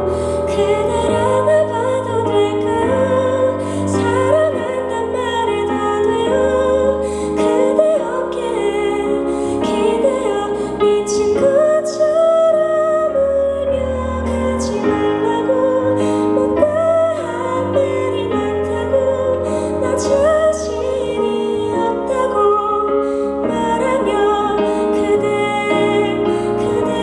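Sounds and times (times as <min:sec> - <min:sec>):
gentle indie song with singing: 0:00.0 - 0:27.0.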